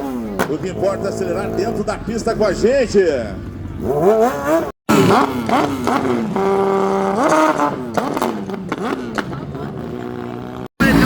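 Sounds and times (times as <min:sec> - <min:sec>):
racing motorcycle engine revving: 0:00.0 - 0:11.0.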